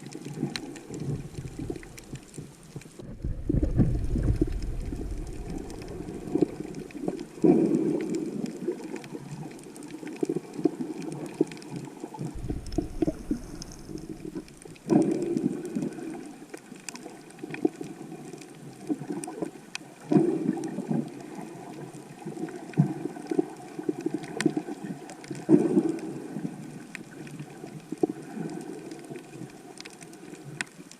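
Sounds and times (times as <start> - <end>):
faint clicks: 0.0 - 21.2, 26.8 - 30.9
muffled underwater water noise: 0.0 - 30.9.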